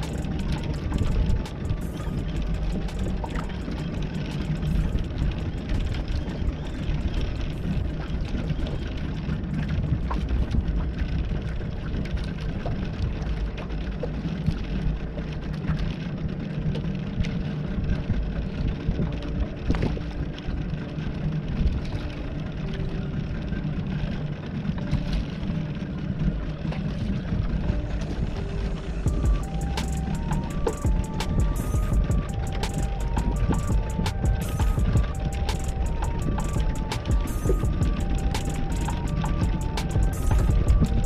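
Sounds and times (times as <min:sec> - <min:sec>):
boat engine rumbling: 0:00.0 - 0:41.0
wind: 0:00.0 - 0:41.0.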